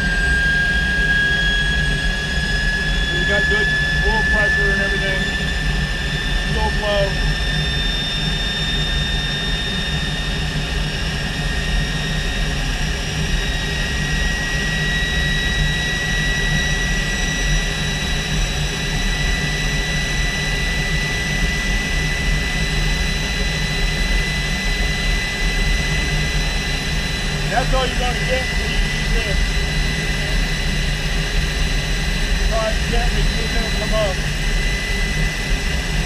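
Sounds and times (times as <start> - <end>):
jet engine rush and whine: 0.0 - 36.0.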